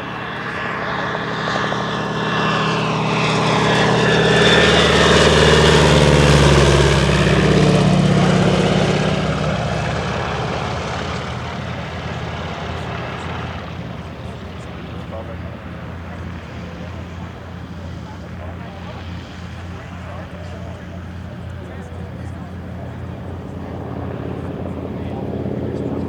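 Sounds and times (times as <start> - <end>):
propeller plane flying past: 0.0 - 26.0.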